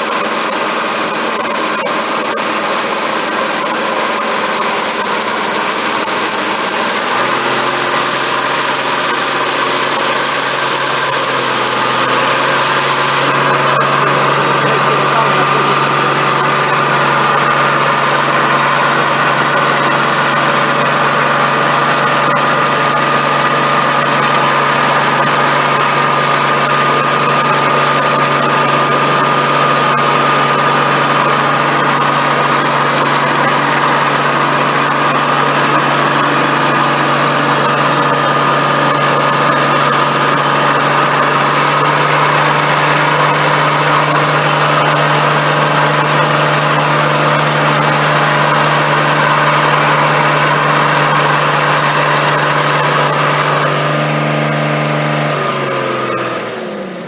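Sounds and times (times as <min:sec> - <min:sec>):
water spray rushing: 0:00.0 - 0:56.2
diesel engine running: 0:00.0 - 0:57.0
pump whine: 0:00.0 - 0:57.0.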